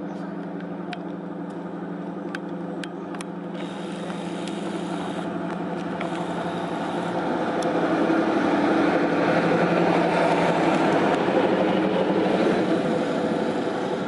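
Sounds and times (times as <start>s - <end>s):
electric locomotive humming: 0.0s - 14.0s.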